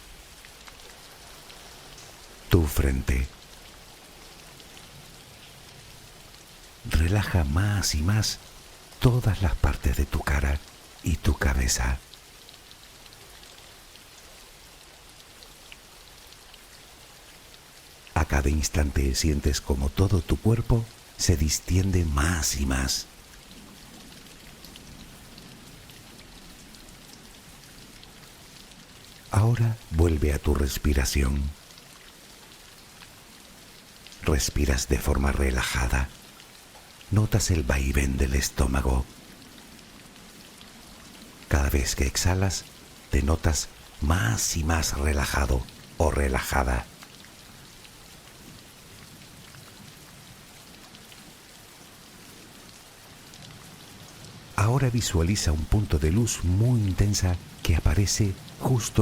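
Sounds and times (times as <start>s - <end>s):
soft steady rain: 0.0s - 59.0s.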